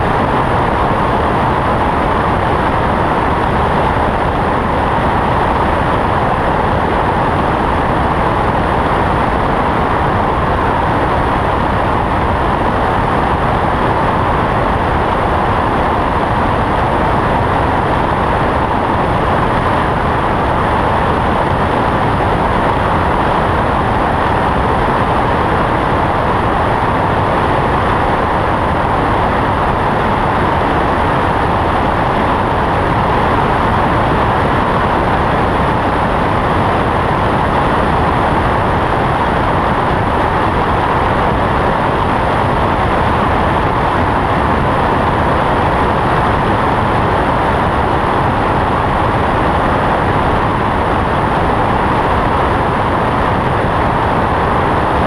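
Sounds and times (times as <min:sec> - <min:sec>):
aircraft engine and propeller: 0:00.0 - 0:55.0
loud rushing airflow: 0:00.0 - 0:55.0.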